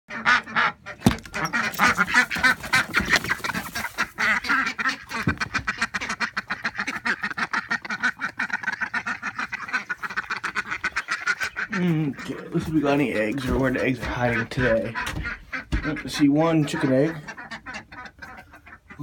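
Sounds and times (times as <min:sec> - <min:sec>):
ducks quacking: 0:00.1 - 0:19.0.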